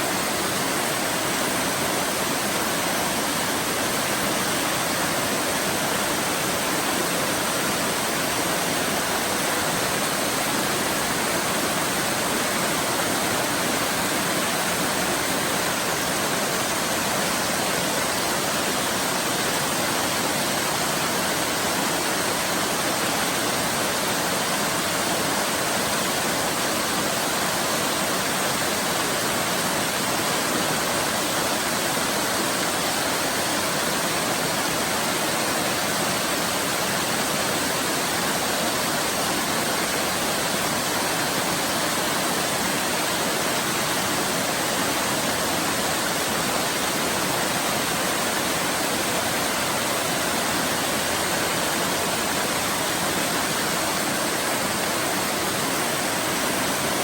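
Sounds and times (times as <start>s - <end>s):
waterfall roar: 0.0s - 57.0s.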